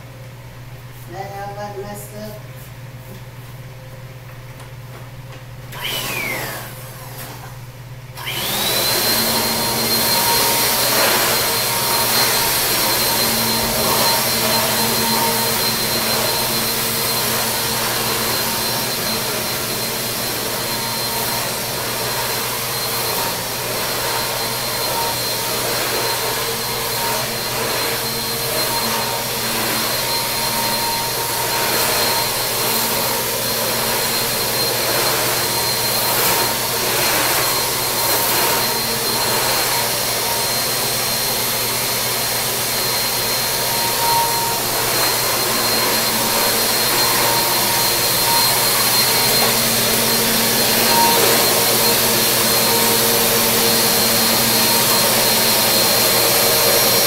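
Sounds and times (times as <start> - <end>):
vacuum cleaner whine: 4.6 - 57.0.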